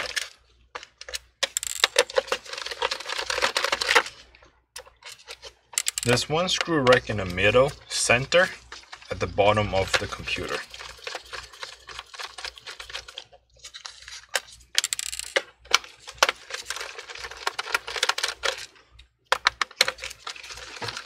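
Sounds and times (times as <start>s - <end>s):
screwdriver and screws clicking on plastic: 0.0s - 4.1s, 4.8s - 7.7s, 9.8s - 21.0s.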